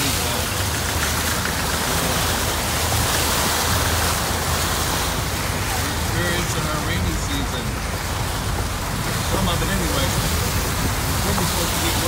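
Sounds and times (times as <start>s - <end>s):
low engine hum: 0.0s - 12.0s
water spraying from car wheels: 0.0s - 12.0s.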